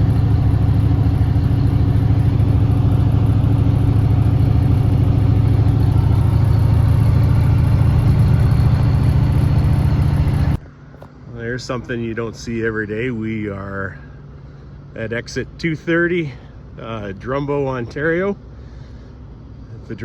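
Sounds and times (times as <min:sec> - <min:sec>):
diesel truck engine drone: 0:00.0 - 0:20.0.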